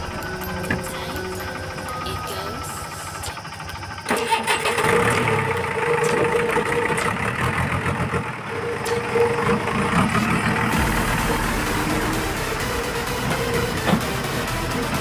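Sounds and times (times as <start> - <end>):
diesel engine starting and running: 0.0 - 15.0.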